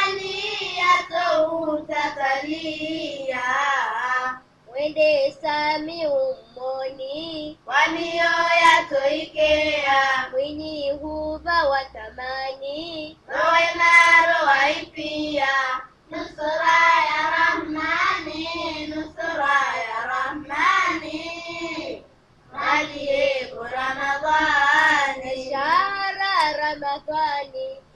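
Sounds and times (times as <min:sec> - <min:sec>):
solo voice singing devotional song: 0:00.0 - 0:22.0, 0:22.6 - 0:27.9.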